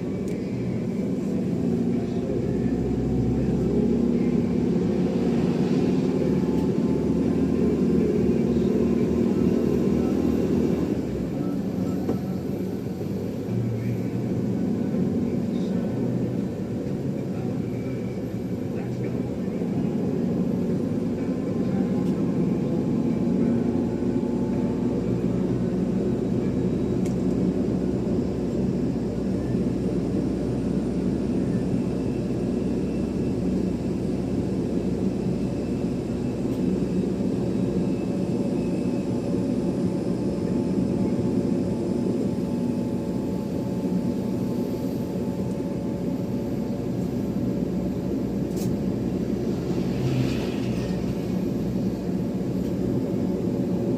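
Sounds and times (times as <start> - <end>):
jet engines running: 0.0 - 53.9.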